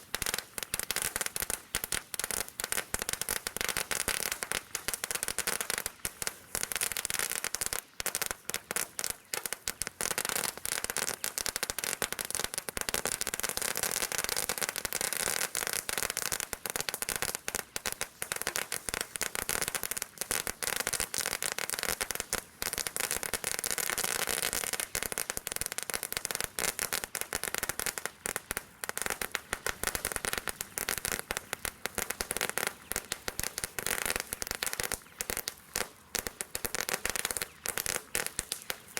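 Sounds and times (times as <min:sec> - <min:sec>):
firework crackling: 0:00.0 - 0:38.9.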